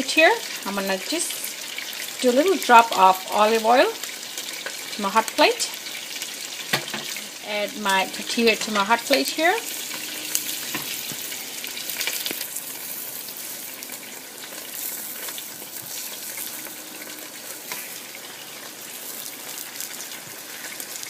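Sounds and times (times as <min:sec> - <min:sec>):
oil sizzling on hot plate: 0:00.0 - 0:21.0.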